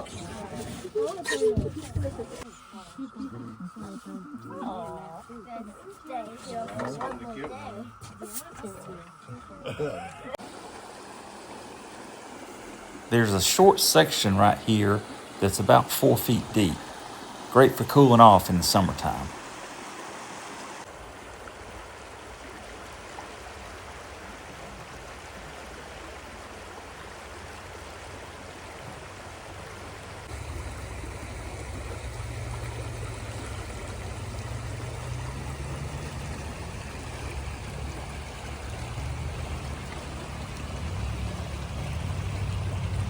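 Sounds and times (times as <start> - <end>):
creek water rushing: 0.0 - 43.0.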